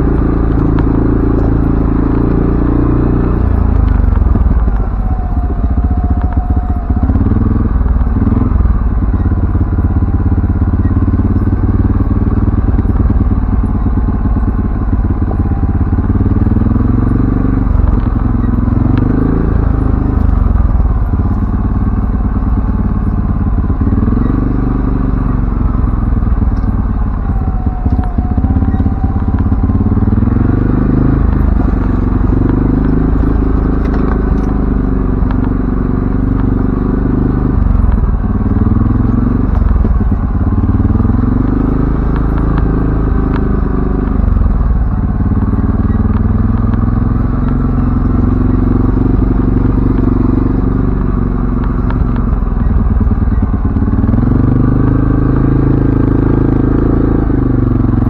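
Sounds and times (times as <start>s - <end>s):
atv engine revving: 0.0s - 58.0s
clatter: 0.0s - 58.0s.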